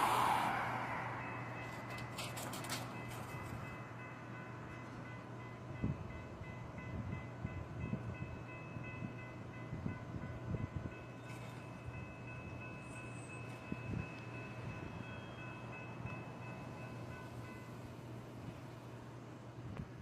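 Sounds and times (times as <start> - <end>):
electric train whine and hum: 0.0 - 20.0.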